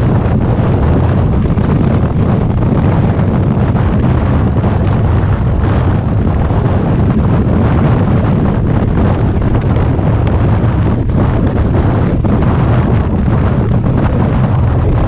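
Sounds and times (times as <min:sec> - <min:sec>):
motorcycle engine rumble: 0:00.0 - 0:15.0
wind on the microphone: 0:00.0 - 0:15.0.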